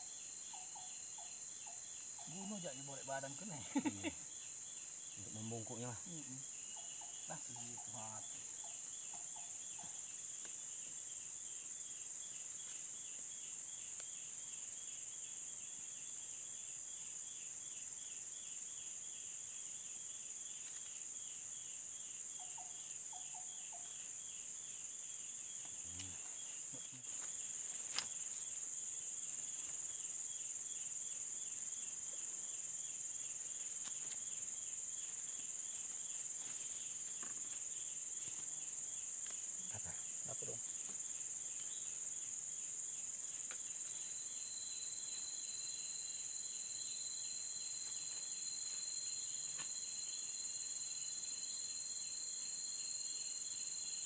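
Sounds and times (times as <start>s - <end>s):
high-pitched insect drone: 0.0s - 54.0s
pulsing insect chirp: 0.0s - 54.0s.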